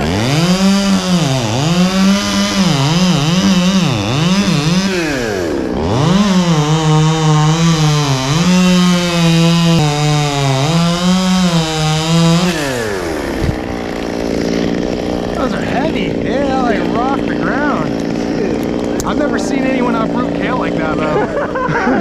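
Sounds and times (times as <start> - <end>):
chainsaw revving and cutting wood: 0.0 - 22.0.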